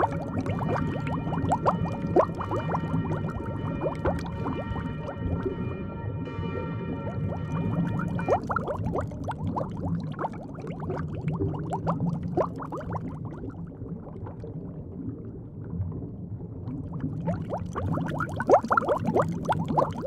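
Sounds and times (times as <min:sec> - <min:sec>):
low steady hum: 0:00.0 - 0:20.0
water bubbling and gurgling: 0:00.0 - 0:20.0.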